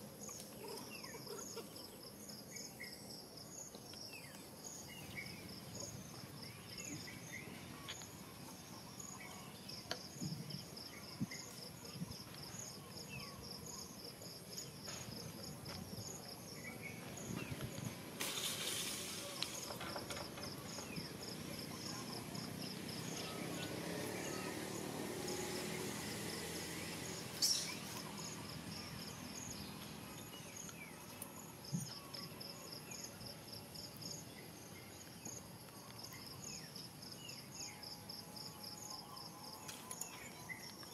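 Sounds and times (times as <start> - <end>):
insects chirping: 0.0 - 40.9
steady high insect buzz: 0.0 - 40.9.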